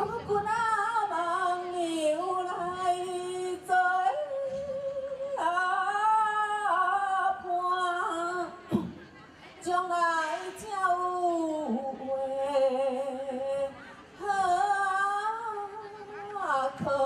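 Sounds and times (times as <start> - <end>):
person singing into a microphone: 0.0 - 9.0, 9.6 - 17.0.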